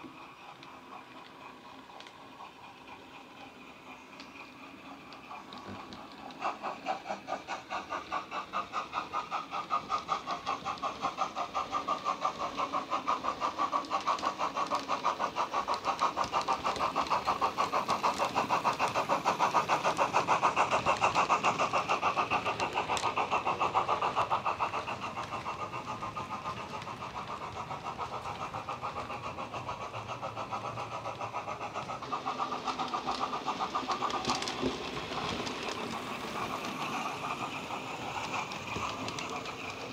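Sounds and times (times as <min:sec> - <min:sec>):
model steam locomotive chuffing: 0:00.0 - 0:39.9.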